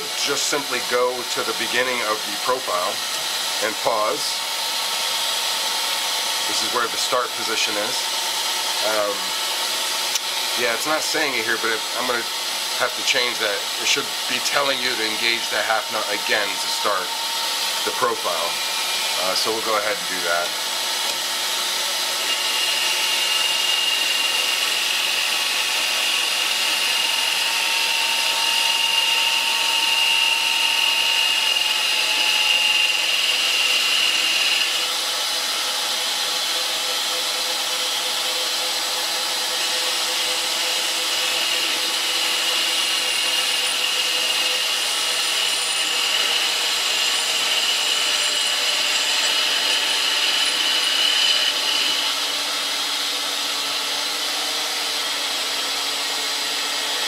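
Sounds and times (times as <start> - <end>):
metal lathe turning: 0.0 - 57.0.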